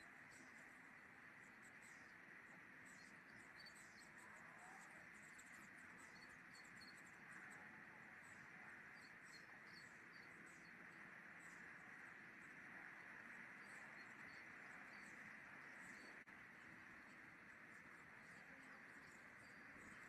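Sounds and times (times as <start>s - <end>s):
faint outdoor hiss: 0.0s - 20.0s
small birds chirping: 0.0s - 20.0s.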